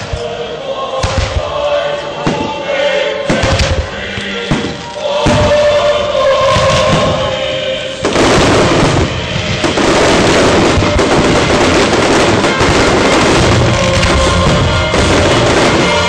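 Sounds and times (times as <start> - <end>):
loud music: 0.0 - 16.0
fireworks bursting and crackling: 1.0 - 16.0.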